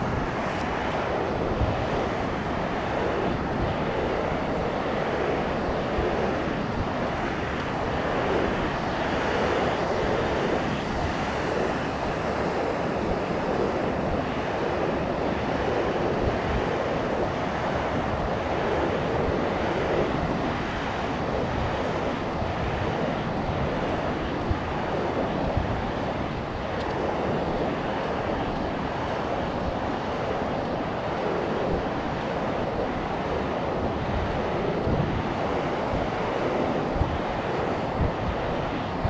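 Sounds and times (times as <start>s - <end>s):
surf washing onto beach: 0.0s - 39.0s
wind rumble on microphone: 0.0s - 39.0s.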